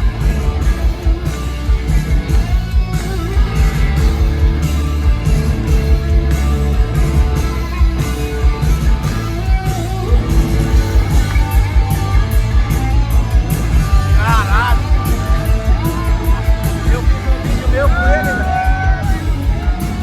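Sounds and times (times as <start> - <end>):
punk rock band playing: 0.0 - 20.0.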